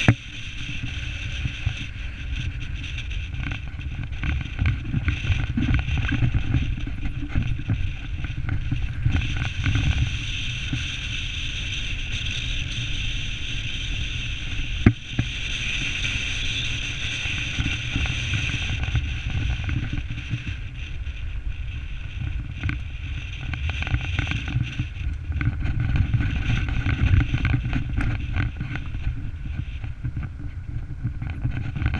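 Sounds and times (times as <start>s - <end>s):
tyres rumbling on gravel: 0.0s - 31.9s
wind buffeting microphone: 0.0s - 31.9s.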